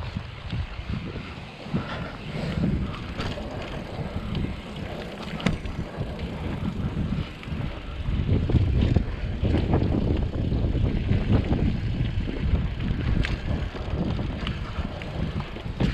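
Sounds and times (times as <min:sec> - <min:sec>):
bike rattles and knocks: 0:00.0 - 0:15.9
bike tyre noise: 0:00.0 - 0:15.9
wind rumble on microphone: 0:00.0 - 0:15.9.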